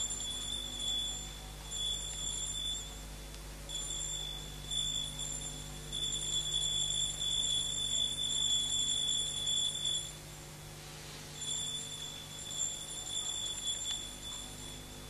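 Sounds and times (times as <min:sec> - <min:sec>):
high steady ringing tone: 0:00.0 - 0:15.0
low steady hum: 0:00.0 - 0:15.0.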